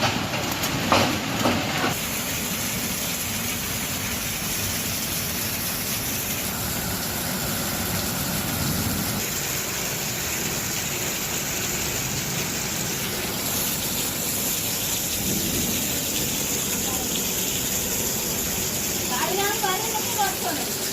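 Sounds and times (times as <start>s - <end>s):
hail and heavy rain falling: 0.0s - 20.9s.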